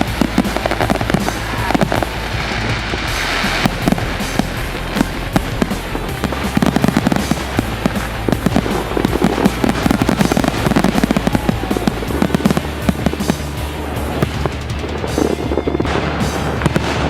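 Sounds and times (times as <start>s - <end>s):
background music with low bass: 0.0s - 17.0s
fireworks crackling and popping: 0.0s - 17.0s.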